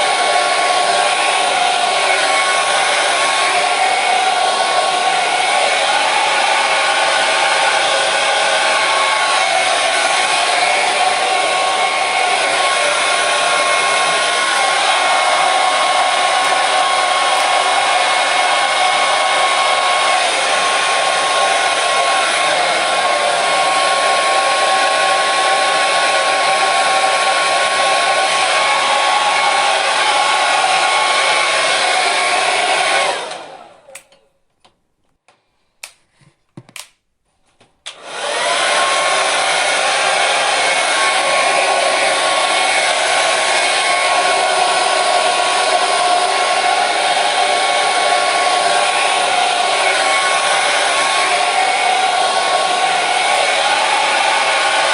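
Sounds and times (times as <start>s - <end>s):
hair dryer running: 0.0s - 34.2s, 37.9s - 54.9s.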